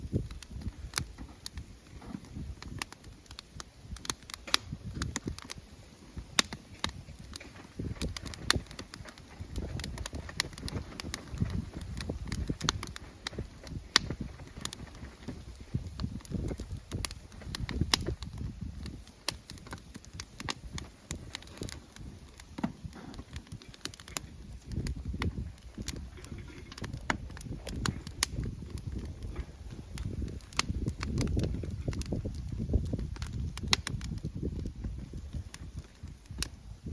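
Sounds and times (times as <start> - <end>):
campfire crackling and popping: 0.0 - 36.9.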